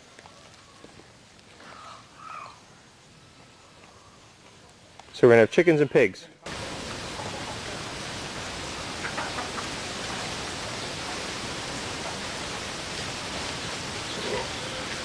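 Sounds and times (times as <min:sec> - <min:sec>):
rainforest background hiss: 0:00.0 - 0:15.0.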